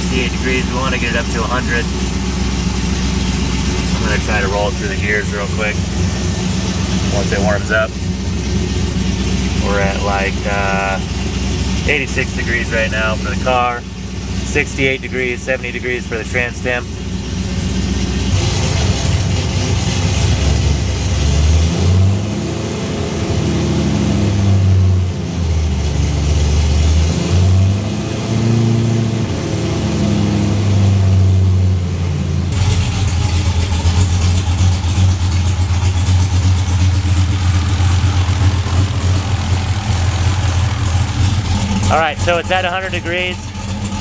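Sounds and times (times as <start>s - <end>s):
car engine revving and idling: 0.0s - 44.0s.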